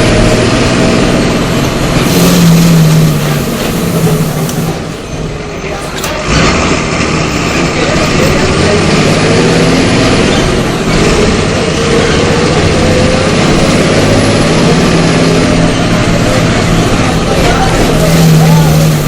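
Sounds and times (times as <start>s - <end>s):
bus diesel engine under load: 0.0s - 19.0s.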